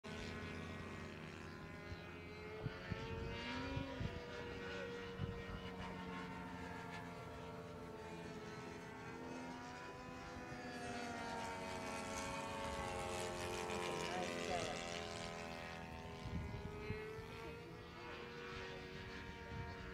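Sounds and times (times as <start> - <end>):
model airplane engines droning: 0.0 - 19.9.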